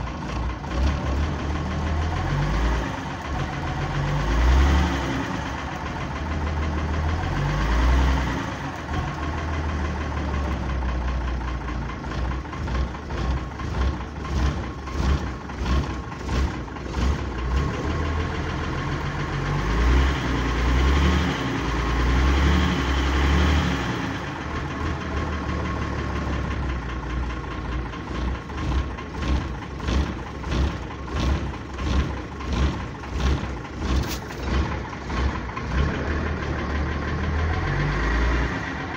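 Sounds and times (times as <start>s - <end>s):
diesel engine idling harshly: 0.0s - 38.9s
engine knock: 0.0s - 38.9s.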